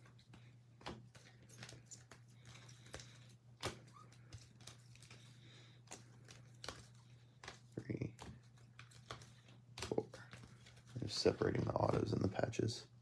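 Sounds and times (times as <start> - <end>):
trading cards clicking and rustling: 0.0 - 12.5
low electrical hum: 0.0 - 13.0.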